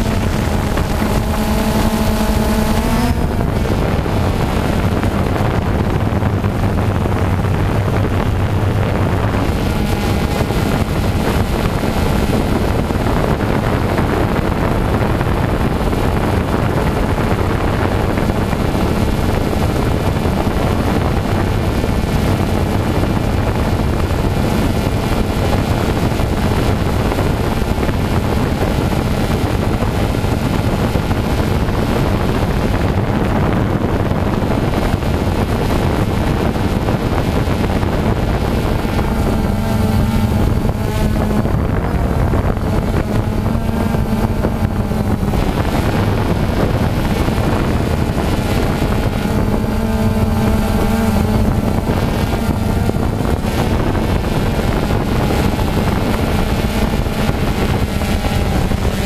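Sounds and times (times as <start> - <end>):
drone propellers whirring: 0.0 - 59.0
rising whine: 0.0 - 59.0.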